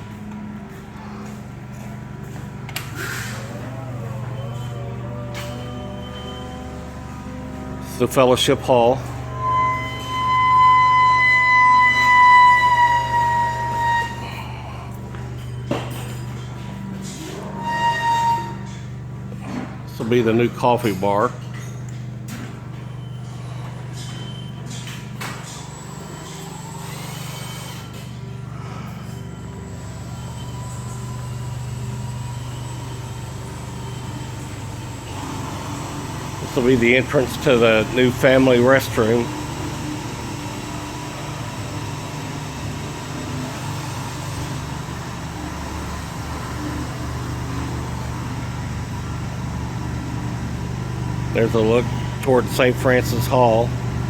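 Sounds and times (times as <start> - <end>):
low machine hum: 0.0 - 54.0
low mechanical drone: 0.0 - 54.0.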